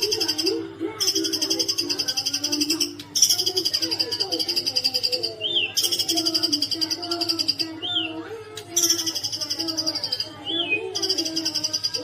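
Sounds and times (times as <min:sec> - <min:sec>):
bird singing high trills: 0:00.0 - 0:08.2, 0:08.8 - 0:12.0.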